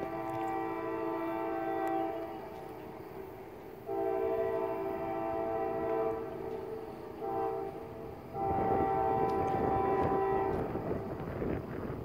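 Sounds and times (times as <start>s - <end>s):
distant train air horn blasts: 0.0s - 11.2s.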